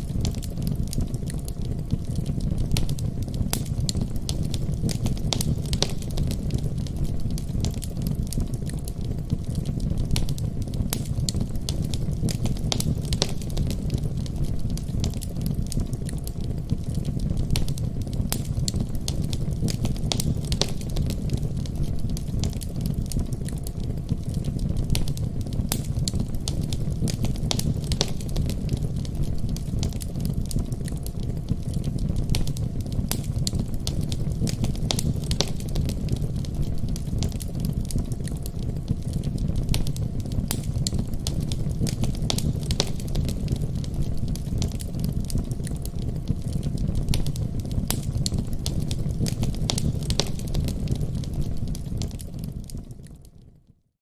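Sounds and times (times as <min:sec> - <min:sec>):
wood fire crackling: 0:00.0 - 0:53.6
low rumble of flame: 0:00.0 - 0:54.0.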